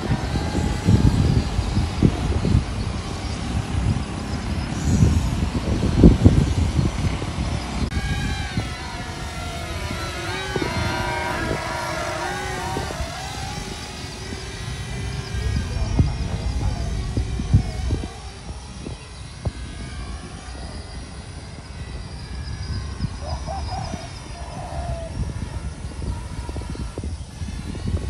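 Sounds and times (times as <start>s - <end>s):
model plane motor whining: 0.0s - 28.0s
wind rumble on microphone: 0.0s - 28.0s.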